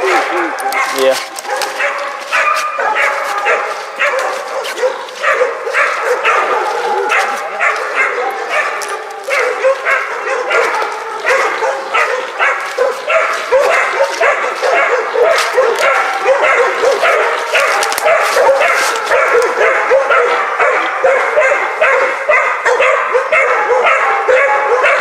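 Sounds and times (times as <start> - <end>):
dogs barking: 0.0 - 25.0.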